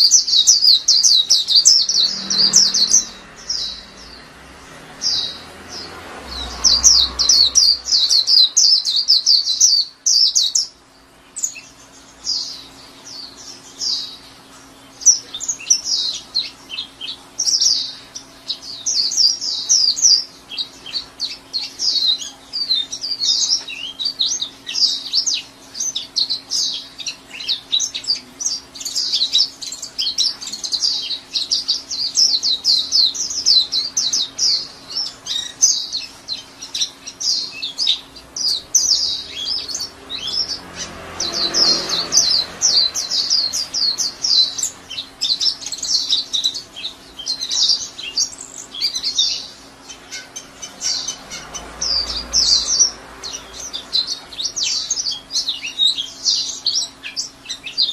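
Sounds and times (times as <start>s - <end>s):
bird high chattering song: 0.0s - 57.9s.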